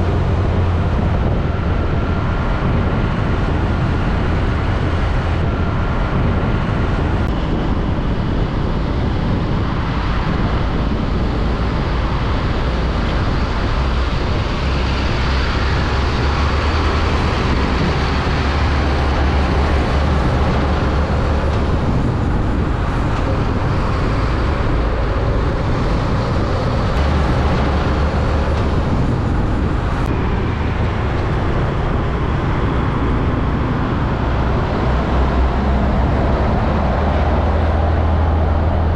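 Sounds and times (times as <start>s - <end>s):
diesel truck engines rumbling: 0.0s - 38.9s.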